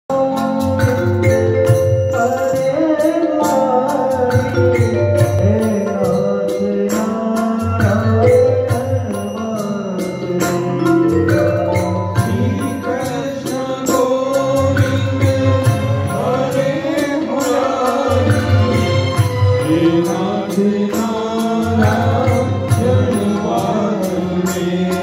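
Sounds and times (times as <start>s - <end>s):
held accompanying notes: 0.1s - 25.0s
man singing into a microphone: 0.1s - 25.0s.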